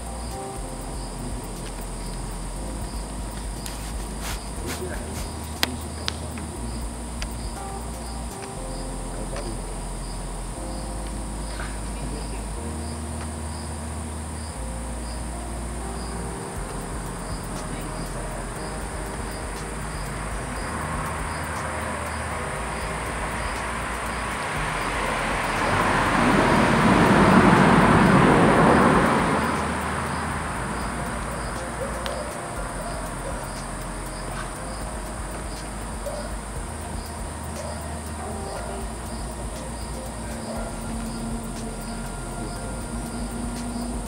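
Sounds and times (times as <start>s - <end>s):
crickets chirping: 0.0s - 44.0s
rushing noise: 0.0s - 44.0s
steady high buzz: 0.0s - 44.0s.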